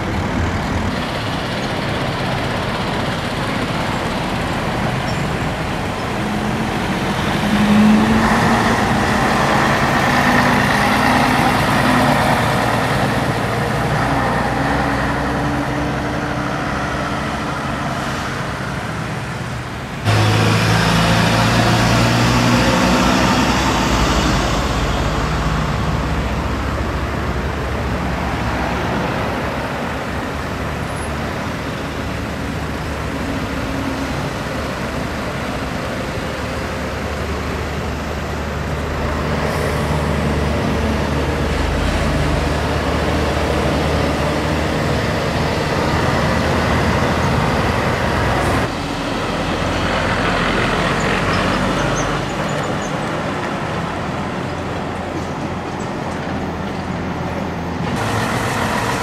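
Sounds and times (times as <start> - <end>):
diesel trucks driving by: 0.0 - 59.0
road traffic: 0.0 - 59.0.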